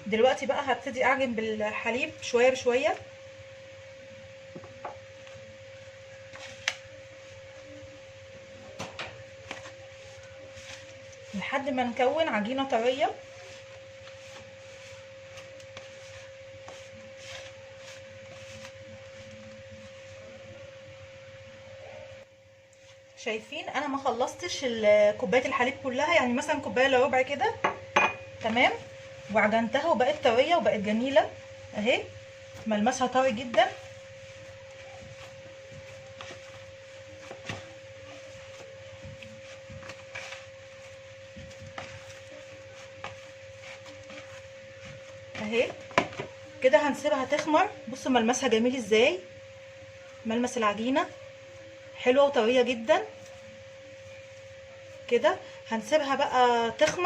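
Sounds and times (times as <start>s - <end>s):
dough squishing: 0.0s - 21.0s, 24.9s - 48.9s, 49.6s - 57.0s
high-pitched hum: 0.0s - 57.0s.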